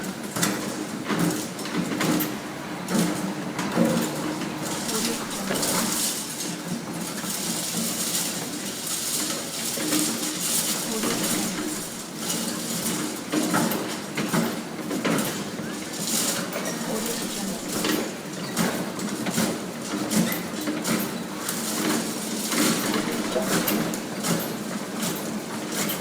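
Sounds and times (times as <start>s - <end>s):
construction din: 0.0s - 26.0s
workers' voices: 0.0s - 26.0s.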